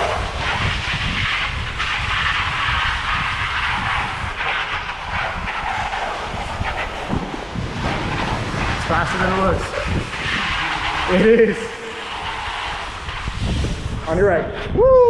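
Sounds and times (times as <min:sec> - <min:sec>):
bicycle tyres rolling on road: 0:00.0 - 0:14.3
wind buffeting microphone: 0:00.0 - 0:15.0.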